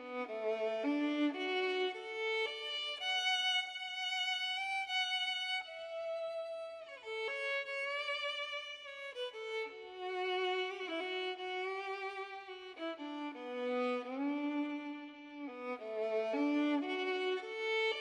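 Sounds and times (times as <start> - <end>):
violin melody: 0.0 - 18.0.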